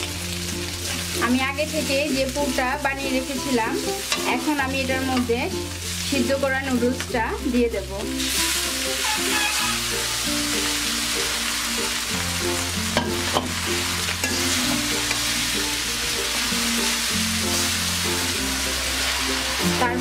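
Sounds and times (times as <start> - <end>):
noodles sizzling in a pan: 0.0 - 20.0
soft background music: 0.0 - 20.0.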